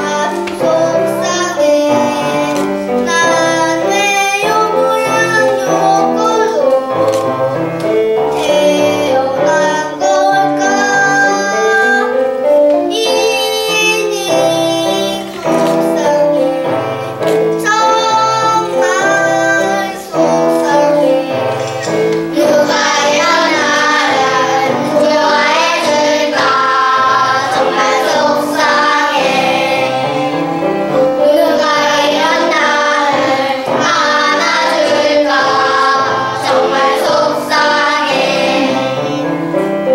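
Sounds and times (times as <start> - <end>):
children singing: 0.0 - 39.9
instrumental accompaniment: 0.0 - 39.9.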